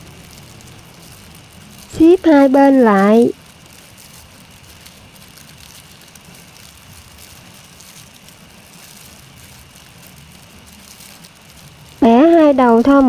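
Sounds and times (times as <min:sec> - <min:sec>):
faint background hum and hiss: 0:00.0 - 0:13.0.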